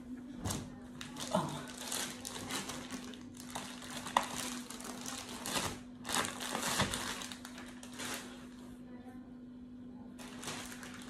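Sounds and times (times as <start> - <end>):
plastic wrap rustling: 0.4 - 8.8, 10.2 - 11.0.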